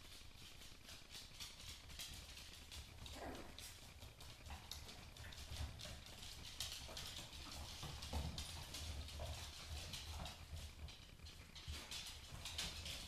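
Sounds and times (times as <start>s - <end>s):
dog claws clicking on floor: 0.0s - 13.0s
steady low hum: 0.0s - 13.0s.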